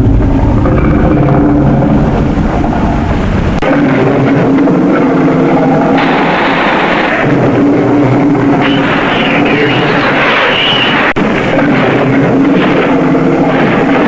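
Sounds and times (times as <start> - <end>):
engine-like sound effect: 0.0 - 14.0.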